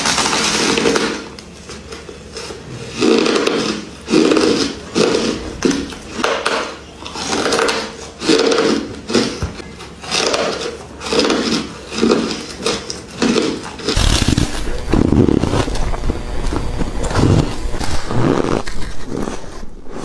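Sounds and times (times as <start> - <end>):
crunchy chewing of ice bar: 0.0 - 20.0.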